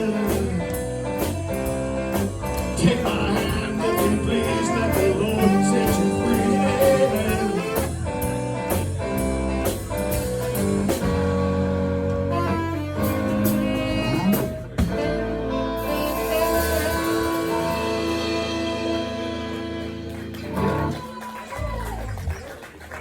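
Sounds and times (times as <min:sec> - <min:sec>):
bass guitar: 0:00.0 - 0:22.9
live band playing: 0:00.0 - 0:23.0.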